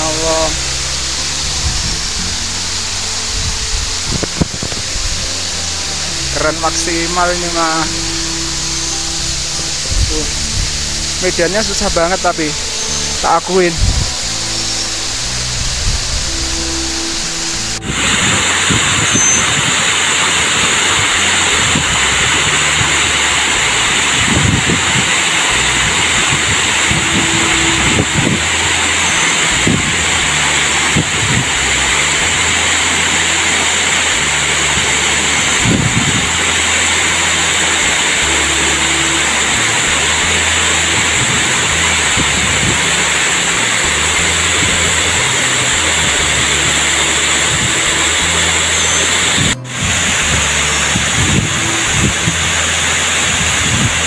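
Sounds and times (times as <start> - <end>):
low bumps: 0.0 - 54.0
waterfall rushing: 0.0 - 54.0.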